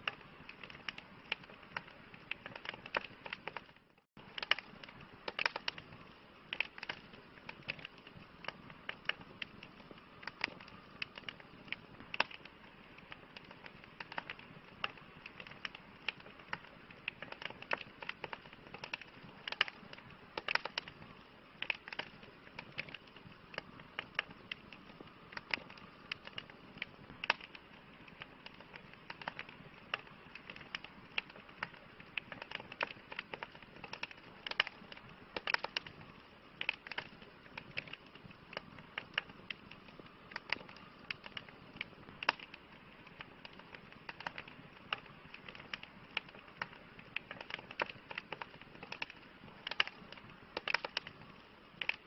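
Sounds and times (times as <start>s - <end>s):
campfire popping and snapping: 0.0s - 52.0s
soft hiss of burning wood: 0.0s - 52.0s.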